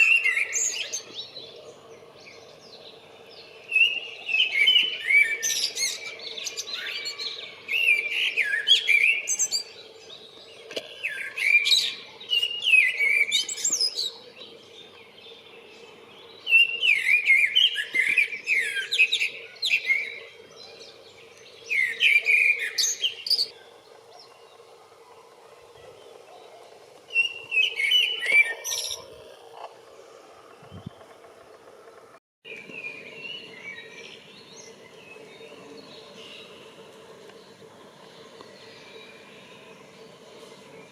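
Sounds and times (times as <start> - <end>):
blackbird singing: 0.0 - 24.6, 25.8 - 29.5, 32.5 - 40.9
faint steady hum: 0.0 - 40.9.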